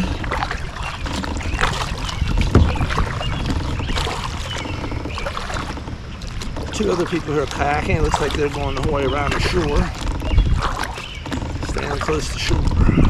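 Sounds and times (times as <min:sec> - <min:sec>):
paddle splashing in water: 0:00.0 - 0:12.8
steady low rumble: 0:00.0 - 0:13.0.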